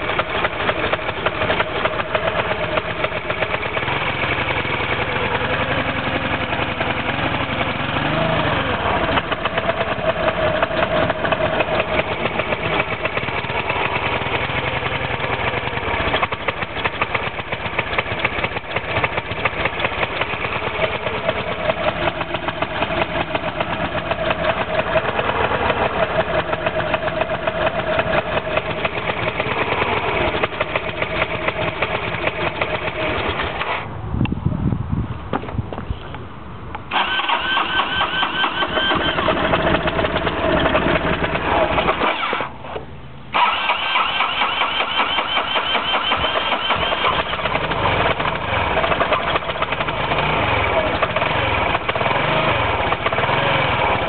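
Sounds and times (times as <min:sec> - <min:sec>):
scooter engine idling: 0:00.0 - 0:34.2, 0:36.9 - 0:54.0.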